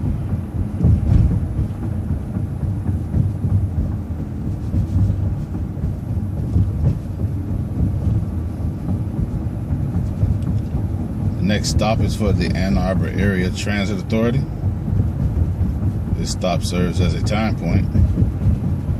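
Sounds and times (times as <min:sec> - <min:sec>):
bus engine and road rumble: 0:00.0 - 0:18.9.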